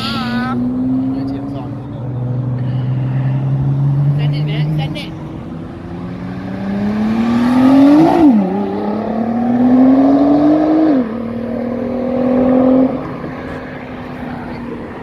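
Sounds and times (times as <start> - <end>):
sports car accelerating: 0.0 - 15.0.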